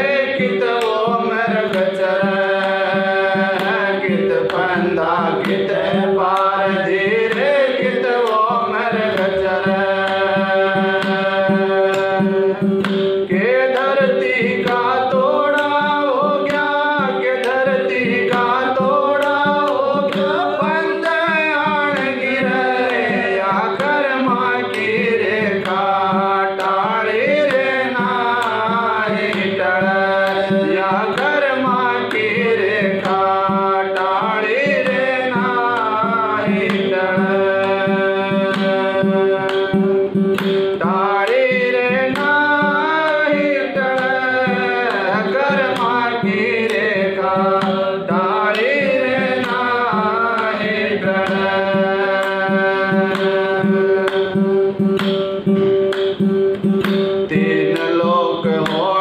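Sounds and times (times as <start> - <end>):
man singing devotional song: 0.0 - 55.6, 56.2 - 59.0.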